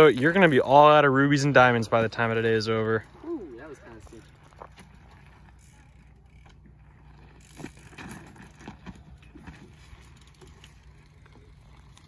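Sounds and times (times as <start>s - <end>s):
bike knocking and rattling on ground: 0.0s - 12.0s.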